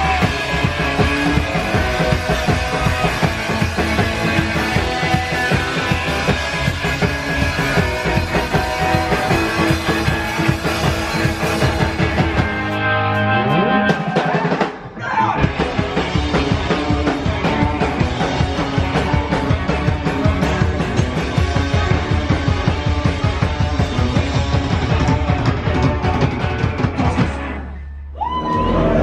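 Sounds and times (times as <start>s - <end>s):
loud fast rock band: 0.0s - 29.0s.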